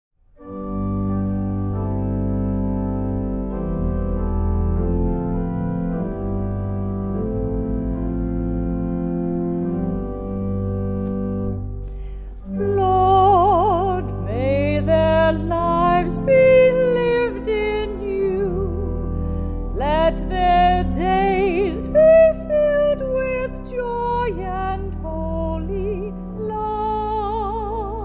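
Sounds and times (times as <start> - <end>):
church organ chords: 0.4 - 28.0.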